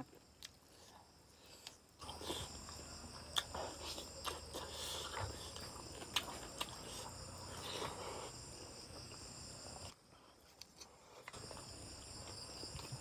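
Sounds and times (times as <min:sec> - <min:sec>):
wet chewing and lip smacking: 0:00.2 - 0:13.0.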